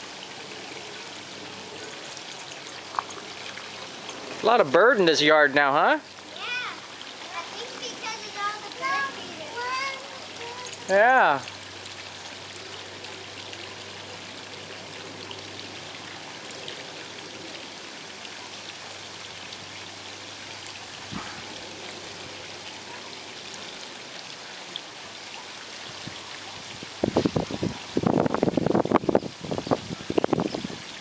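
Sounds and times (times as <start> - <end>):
pond waterfall splashing: 0.0 - 31.0.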